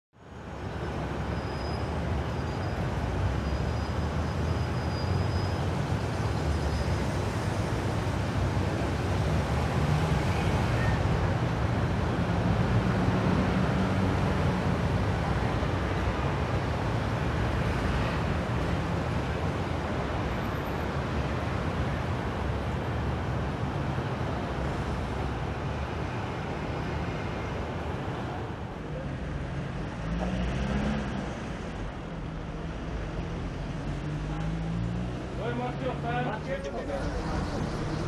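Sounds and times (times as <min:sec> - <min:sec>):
low rumble of traffic: 0:00.2 - 0:38.0
cars passing: 0:00.5 - 0:38.0.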